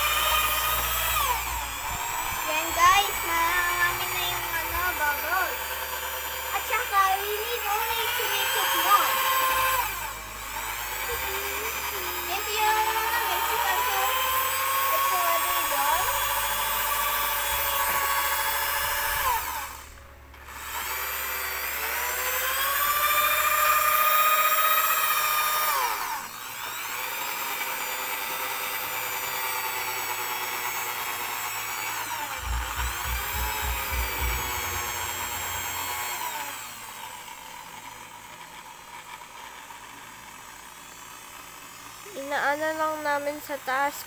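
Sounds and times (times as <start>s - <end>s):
electric drill mixing soap: 0.0s - 44.0s.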